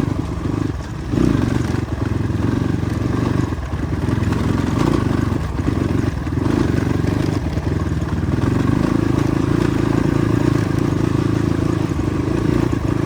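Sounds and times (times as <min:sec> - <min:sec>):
clatter: 0:00.0 - 0:13.0
motorcycle engine under load: 0:00.0 - 0:13.0.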